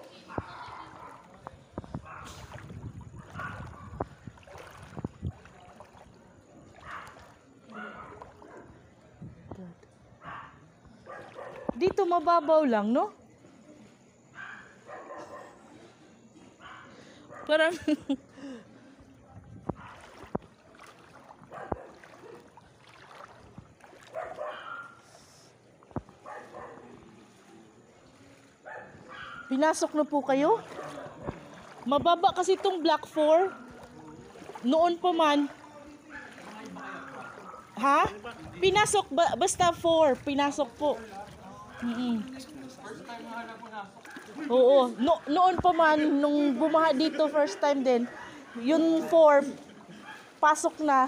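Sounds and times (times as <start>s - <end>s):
sloshing steps through water: 0.0s - 14.8s, 19.0s - 51.0s.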